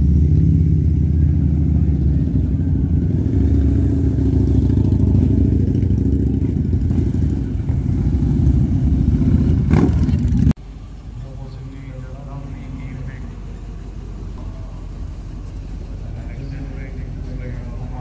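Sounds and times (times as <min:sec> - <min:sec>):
motorcycle engines passing: 0:00.0 - 0:18.0.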